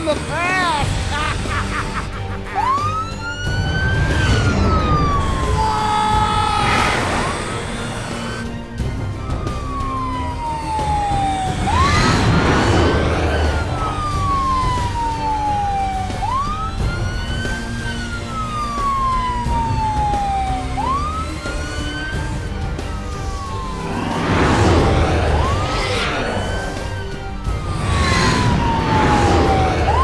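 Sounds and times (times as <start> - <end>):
police siren wailing: 0.1 - 30.0.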